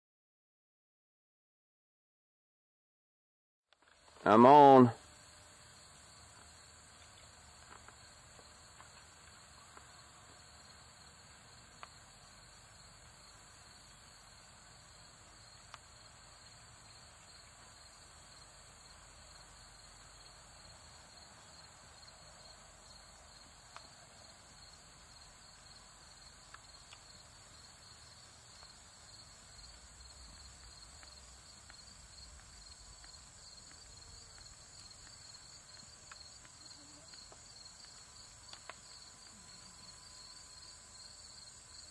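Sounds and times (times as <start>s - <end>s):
insects trilling: 5.5s - 41.9s.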